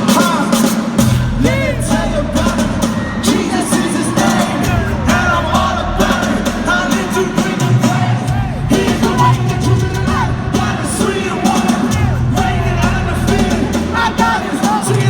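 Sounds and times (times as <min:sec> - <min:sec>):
bass and drums: 0:00.0 - 0:15.0
live band music: 0:00.0 - 0:15.0
person singing: 0:00.0 - 0:15.0.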